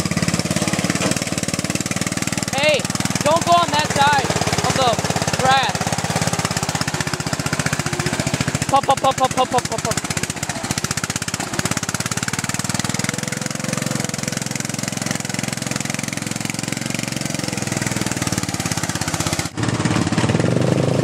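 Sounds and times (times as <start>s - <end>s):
lawn tractor engine running: 0.0s - 21.0s.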